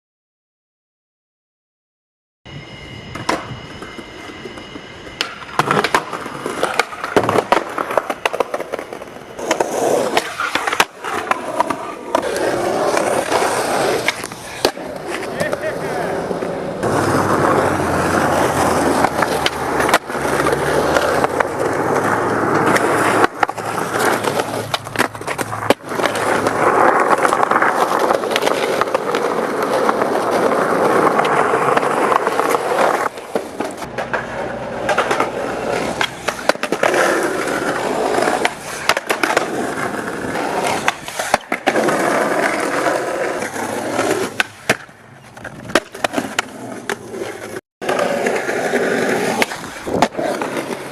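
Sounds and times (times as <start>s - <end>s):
skateboard wheels rolling on concrete: 2.5s - 50.9s
skateboard popping and landing clacks: 5.2s - 15.7s, 18.6s - 50.9s.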